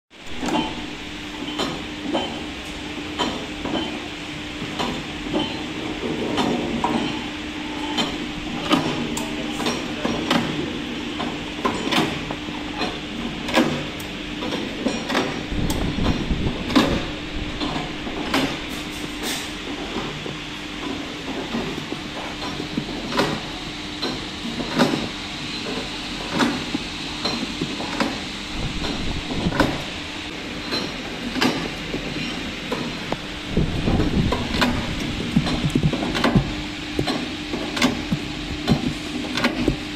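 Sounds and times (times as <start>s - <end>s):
machine motor hum: 6.0s - 39.9s.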